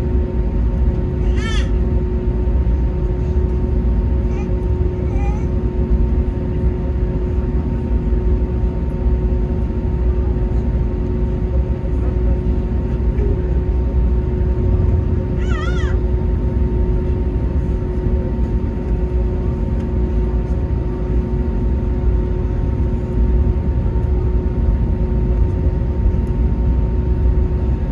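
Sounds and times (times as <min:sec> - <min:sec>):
jet engines running low rumble: 0:00.0 - 0:27.9.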